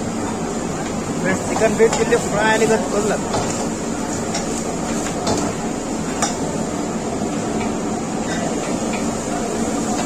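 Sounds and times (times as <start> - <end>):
gas burner flame rushing: 0.0 - 10.0.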